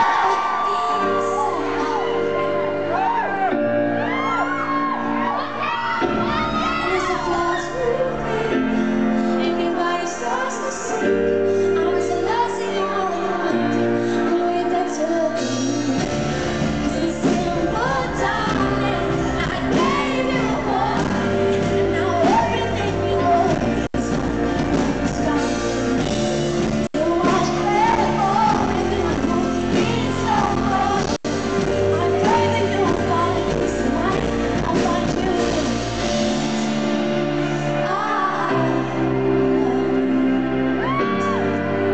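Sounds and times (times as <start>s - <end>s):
woman singing: 0.0s - 3.4s, 5.2s - 36.8s, 37.4s - 41.9s
bass line: 0.0s - 10.4s, 11.1s - 41.9s
live pop band playing: 0.0s - 41.9s.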